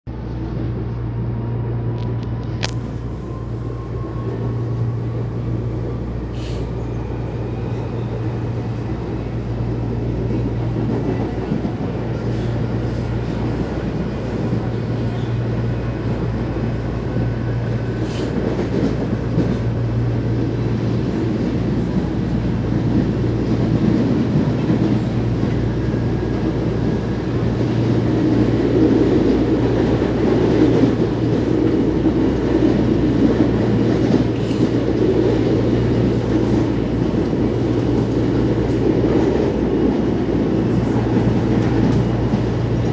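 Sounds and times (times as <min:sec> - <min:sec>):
train rumbling on rails: 0:00.1 - 0:42.9.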